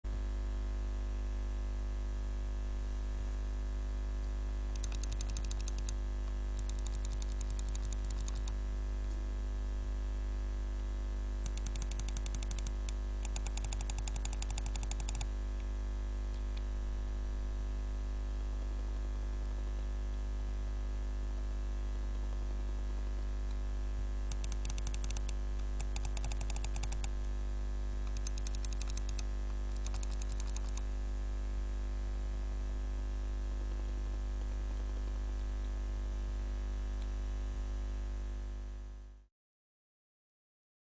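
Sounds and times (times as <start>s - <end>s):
low electrical hum: 0.1s - 39.2s.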